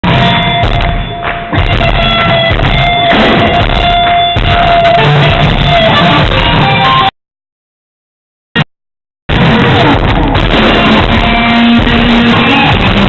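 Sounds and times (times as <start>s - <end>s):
live rock band playing: 0.0s - 7.1s, 9.3s - 13.0s
steady drum beat: 0.0s - 7.1s, 9.3s - 13.0s.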